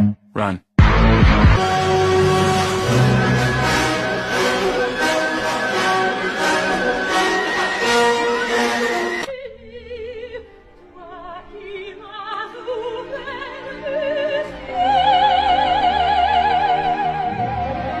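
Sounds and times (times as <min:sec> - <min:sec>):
operatic singing with vibrato: 0:01.6 - 0:18.0.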